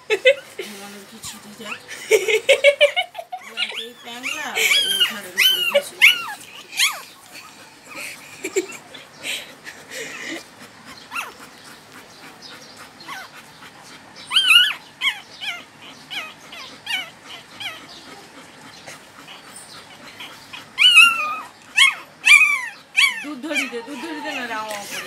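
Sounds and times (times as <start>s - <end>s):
puppy crying: 1.2s - 9.1s, 10.0s - 11.5s, 13.0s - 13.4s, 14.2s - 25.0s.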